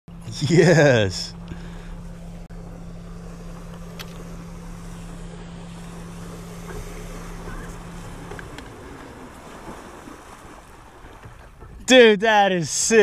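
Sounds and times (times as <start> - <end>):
electric motor humming: 0.1 - 11.6
water noise: 0.1 - 13.0
wind: 0.1 - 13.0.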